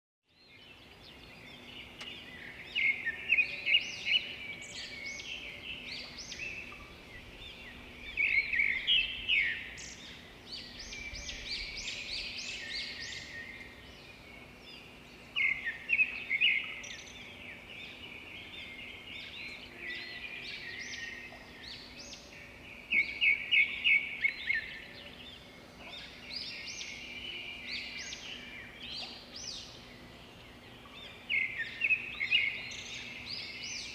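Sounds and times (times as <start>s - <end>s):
songbirds chirping and singing: 0.3s - 33.9s.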